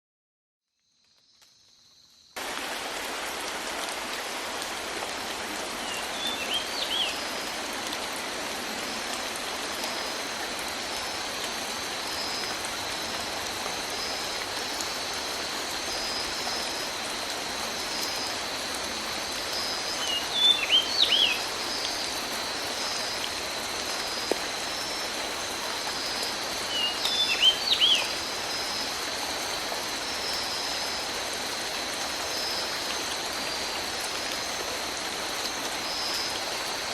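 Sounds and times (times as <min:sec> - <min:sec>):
heavy rain falling: 0:02.4 - 0:36.9.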